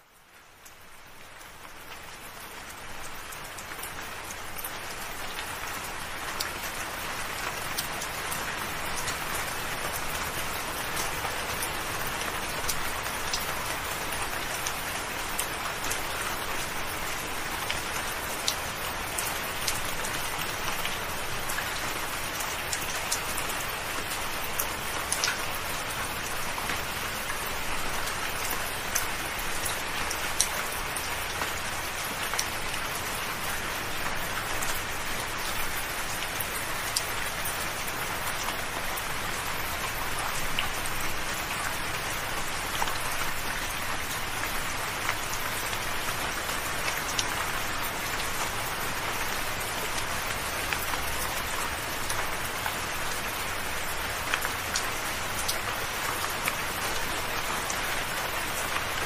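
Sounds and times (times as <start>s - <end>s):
raindrops ticking: 0.1s - 59.0s.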